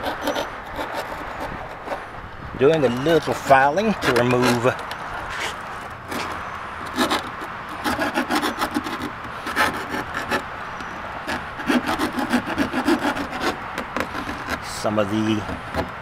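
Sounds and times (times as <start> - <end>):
hand file rasping on metal: 0.0 - 2.0, 2.9 - 14.8.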